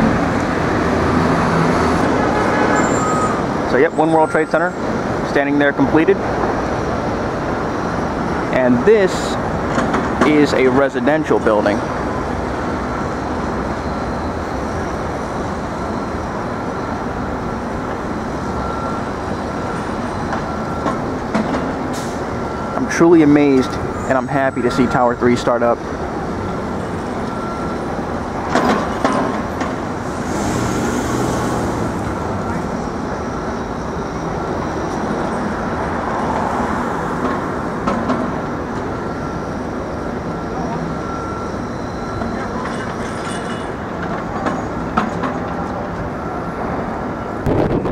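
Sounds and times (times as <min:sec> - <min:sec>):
city street traffic: 0:00.0 - 0:47.9.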